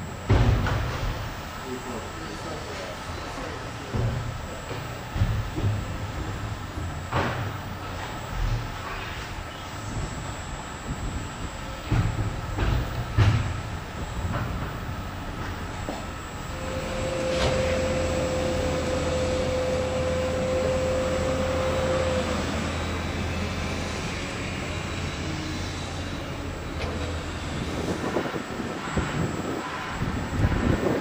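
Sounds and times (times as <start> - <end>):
steady whine: 0.0 - 31.0
train equipment humming: 0.0 - 31.0.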